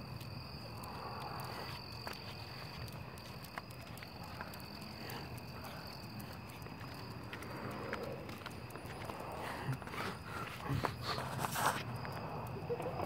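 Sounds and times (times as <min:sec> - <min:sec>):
crickets chirring: 0:00.0 - 0:13.0
faint ticks: 0:00.0 - 0:13.0.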